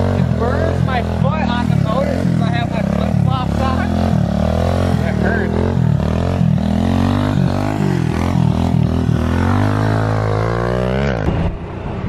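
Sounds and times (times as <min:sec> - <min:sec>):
motorbike engine revving: 0:00.0 - 0:11.6.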